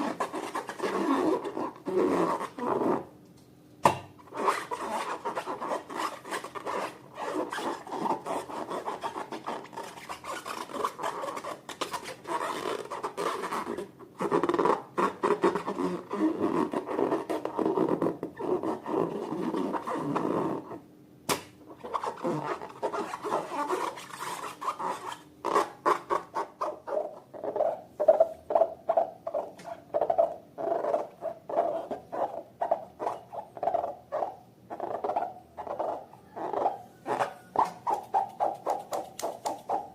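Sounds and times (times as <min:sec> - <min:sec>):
slime rubbing and scraping: 0:00.0 - 0:03.1, 0:04.3 - 0:20.2, 0:21.7 - 0:39.9.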